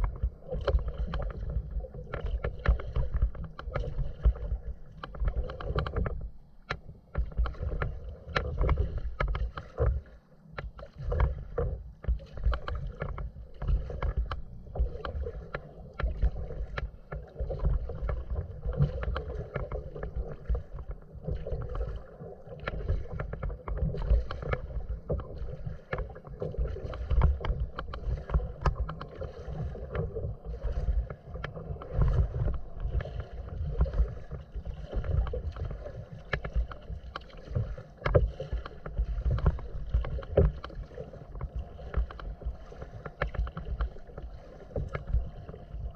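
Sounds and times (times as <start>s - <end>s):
wind rumble on microphone: 0.0s - 44.1s
paddle splashes and drips: 0.0s - 45.9s
wavelets lapping a hull: 0.0s - 45.9s.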